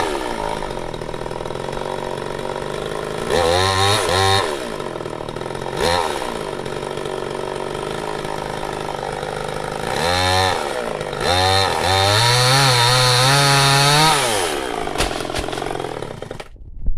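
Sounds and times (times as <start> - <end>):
chainsaw idling and revving: 0.0 - 16.6.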